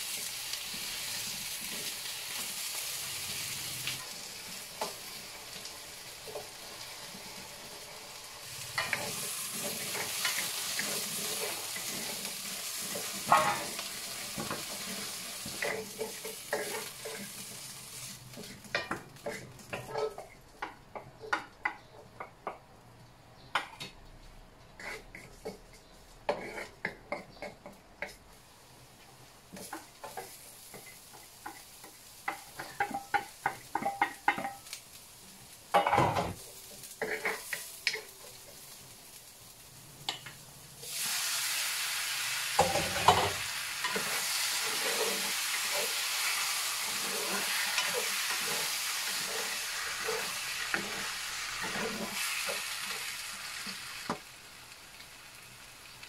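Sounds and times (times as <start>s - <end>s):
loud sizzle of chicken in oil: 0.0s - 19.9s, 28.3s - 56.0s
utensil clicking and scraping a wok: 0.0s - 22.6s, 24.7s - 28.4s, 29.5s - 34.9s, 35.7s - 38.8s, 42.6s - 54.2s
faint sizzle: 0.0s - 56.0s.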